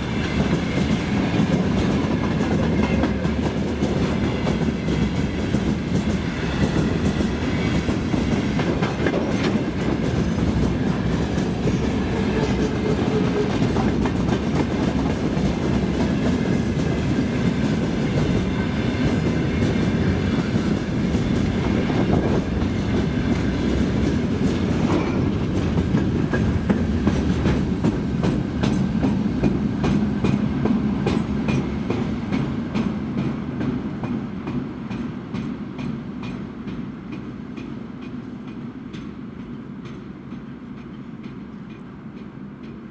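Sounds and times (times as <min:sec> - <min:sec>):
freight train wagons rumbling: 0:00.0 - 0:42.9.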